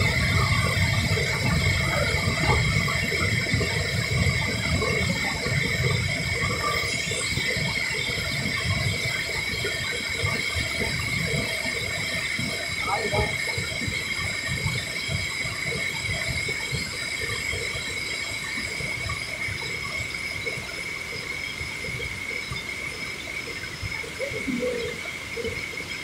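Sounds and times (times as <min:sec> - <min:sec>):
high-pitched whine: 0:00.0 - 0:26.0.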